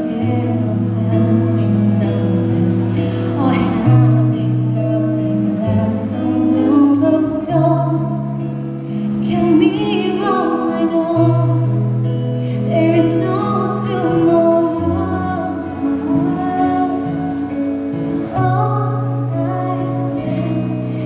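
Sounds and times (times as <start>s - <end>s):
woman singing into microphone: 0.0s - 21.0s.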